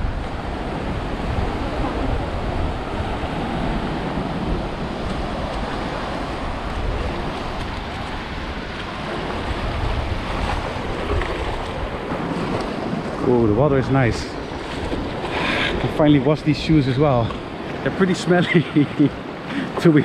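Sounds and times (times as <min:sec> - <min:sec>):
wind buffeting microphone: 0:00.0 - 0:19.5
sea surf washing in: 0:00.0 - 0:20.0.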